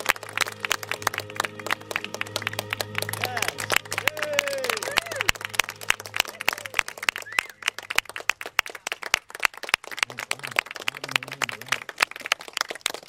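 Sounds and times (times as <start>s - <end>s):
small audience clapping: 0.0s - 13.0s.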